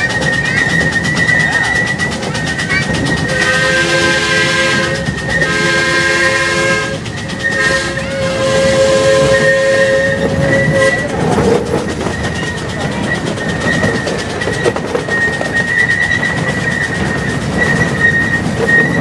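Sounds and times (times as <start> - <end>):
steam locomotive chime whistle: 0.0 - 19.0
train rumble: 0.0 - 19.0
wheels squealing on track: 0.0 - 19.0.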